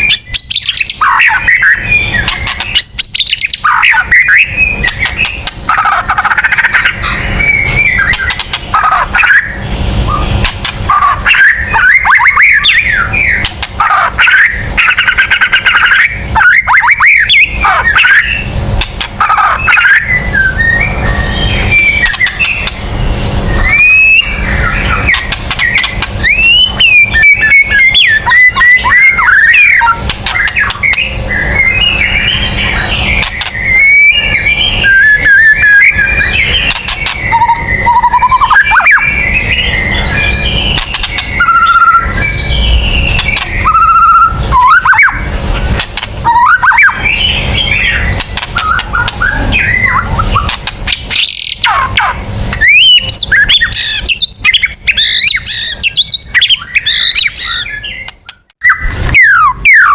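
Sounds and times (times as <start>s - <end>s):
songbird whistling and chirping: 0.0s - 18.5s, 19.2s - 22.8s, 23.5s - 45.3s, 46.2s - 59.9s.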